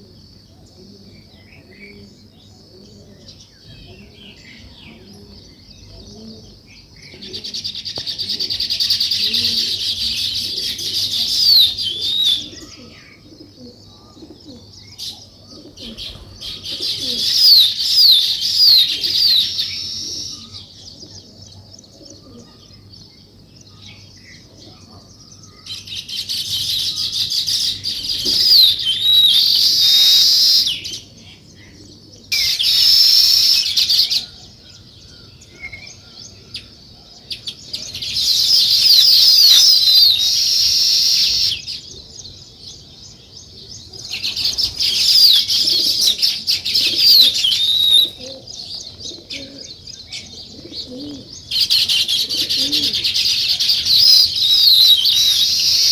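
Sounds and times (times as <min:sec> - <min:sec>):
soft bird chirps: 0:00.0 - 0:55.9
songbirds chattering loudly: 0:00.0 - 0:55.9.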